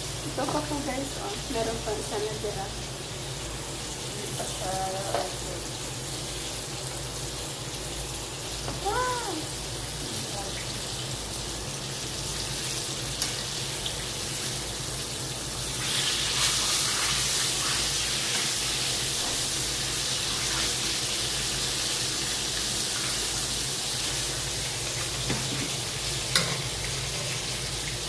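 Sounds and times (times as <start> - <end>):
chicken sizzling in hot oil: 0.0 - 28.0.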